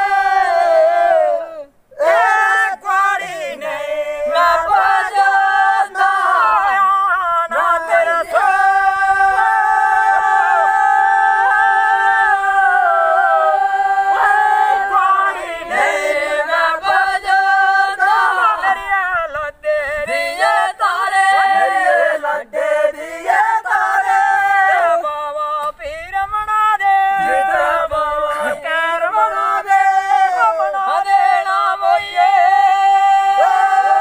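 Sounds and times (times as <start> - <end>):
group singing unaccompanied folk song: 0.0 - 34.0.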